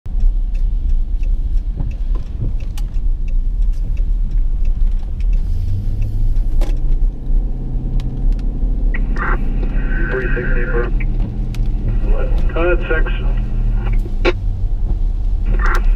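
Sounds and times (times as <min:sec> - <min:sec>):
road rumble inside car: 0:00.0 - 0:15.9
low steady hum: 0:00.1 - 0:15.9
rain tapping on car: 0:00.1 - 0:15.9.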